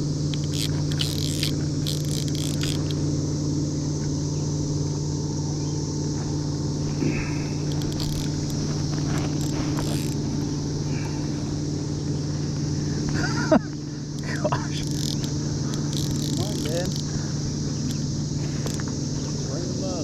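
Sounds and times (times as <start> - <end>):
cicadas chorus: 0.0 - 20.0
low hum: 0.0 - 20.0.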